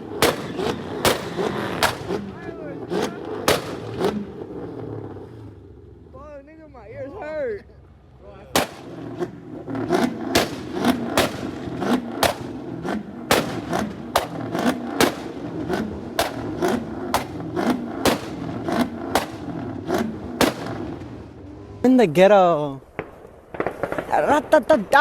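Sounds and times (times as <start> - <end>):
car exhaust bangs: 0.0 - 6.6, 7.8 - 21.8
engine drone: 0.0 - 22.2.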